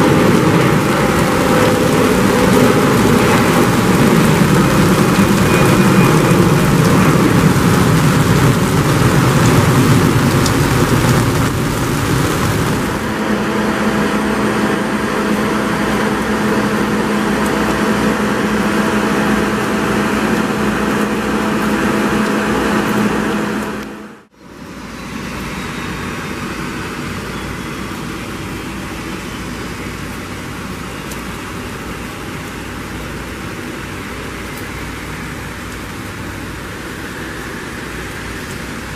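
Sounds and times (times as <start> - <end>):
faint jet engine whine: 0.0 - 38.9
jet engines roaring: 0.0 - 38.9.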